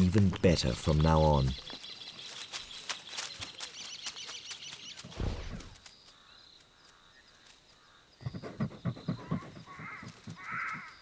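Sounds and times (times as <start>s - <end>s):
faint bird calls: 1.5s - 11.0s.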